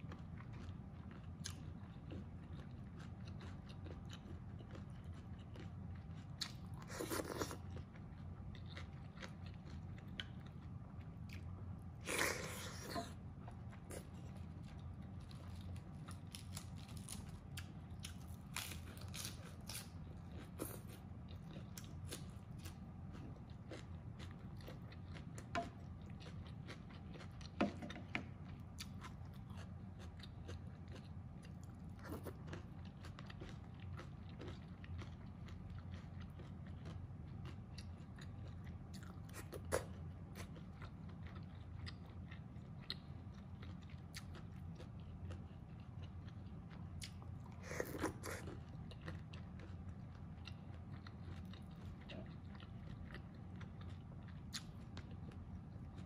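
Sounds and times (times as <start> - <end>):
chewing crisp food: 0.0 - 56.0
steady low hum: 0.0 - 56.0.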